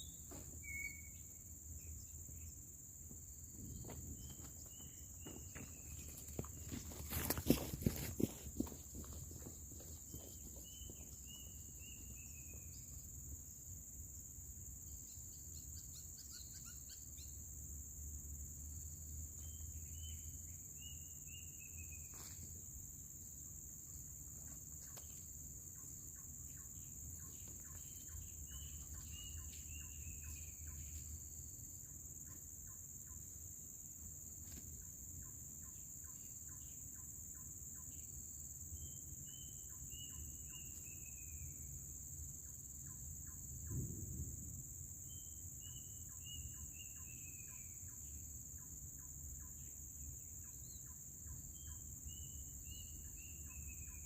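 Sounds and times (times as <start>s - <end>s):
forest insects droning: 0.0s - 54.0s.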